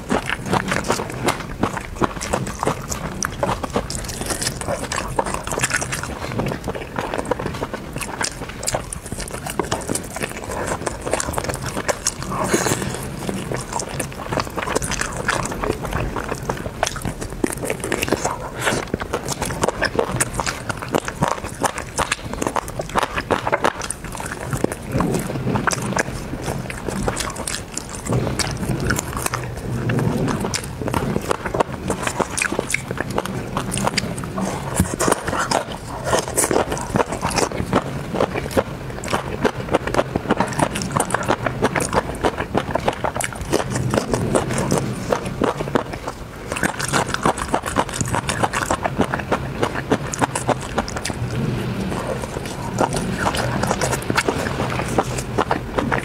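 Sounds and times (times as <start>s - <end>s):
person biting and chewing: 0.0s - 56.0s
wet mouth clicks and smacks: 0.0s - 56.0s.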